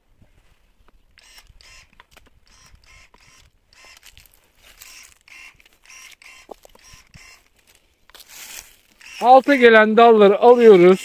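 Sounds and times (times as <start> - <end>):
pruning shears cutting shoots: 1.2 - 11.0.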